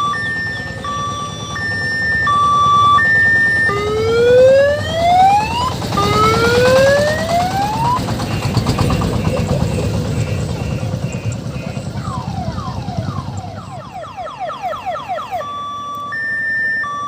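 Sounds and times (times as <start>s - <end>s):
diesel engine running: 0.0s - 17.0s
electronic siren: 0.0s - 17.0s.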